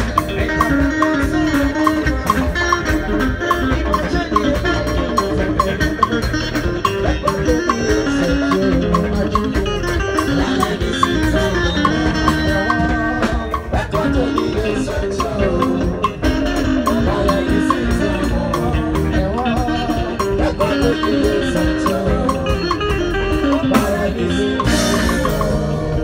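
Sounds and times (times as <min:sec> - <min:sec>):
live band playing gospel: 0:00.0 - 0:26.0.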